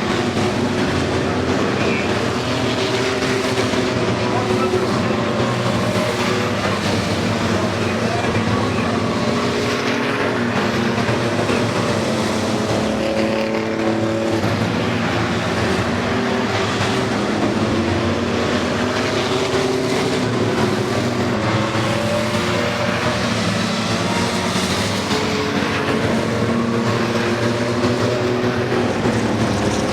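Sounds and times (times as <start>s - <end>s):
racing truck engines: 0.0s - 29.9s.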